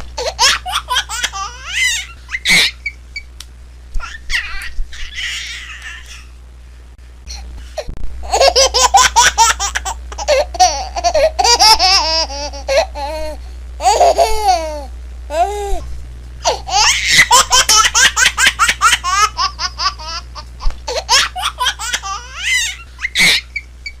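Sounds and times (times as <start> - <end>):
baby laughing: 0.2 - 3.0, 4.0 - 6.3, 8.2 - 15.8, 16.4 - 24.0.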